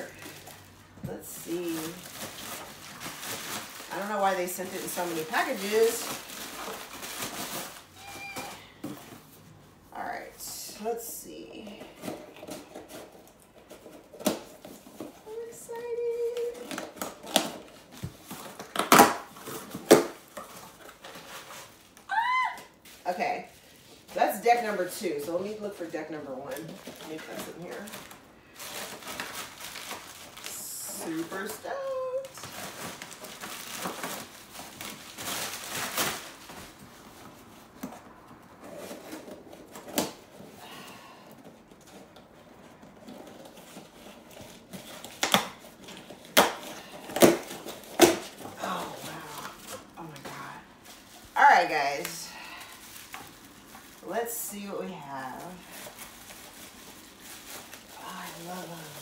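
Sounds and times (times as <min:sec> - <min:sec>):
plastic mailer rustling: 0:00.0 - 0:09.7, 0:11.3 - 0:59.0.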